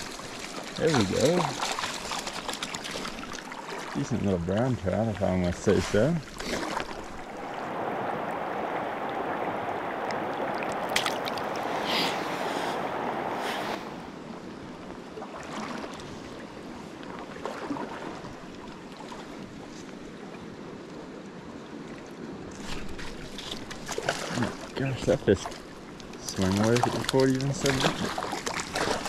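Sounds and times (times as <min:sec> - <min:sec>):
stream water flowing: 0:00.0 - 0:29.0.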